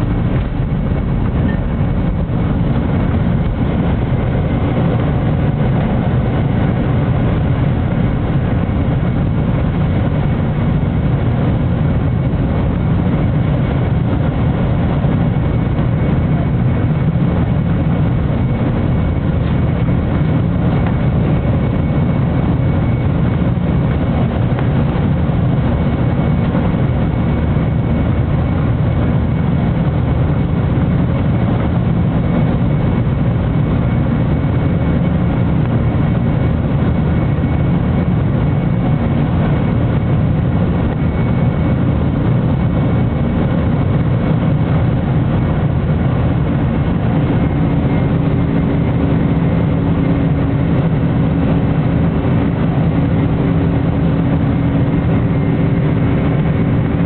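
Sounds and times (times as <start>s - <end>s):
jet engines rumbling in cabin: 0.0s - 57.0s
rushing air: 0.0s - 57.0s.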